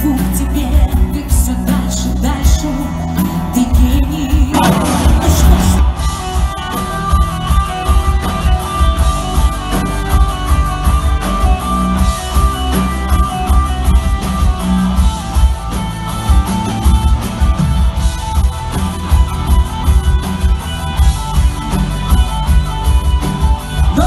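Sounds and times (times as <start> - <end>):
electric guitar: 0.0 - 24.0
pulsing bass: 0.0 - 24.0
steady drum beat: 0.0 - 24.0.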